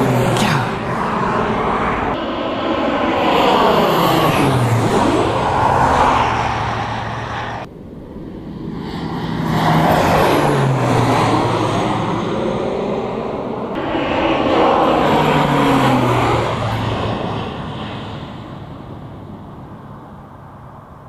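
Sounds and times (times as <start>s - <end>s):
vehicles passing by: 0.0s - 21.0s.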